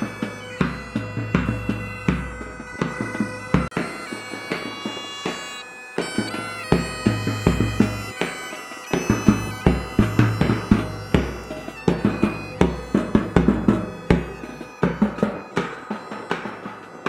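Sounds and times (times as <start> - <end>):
bagpipes playing over drone: 0.0 - 17.0
drumbeats: 0.0 - 17.0.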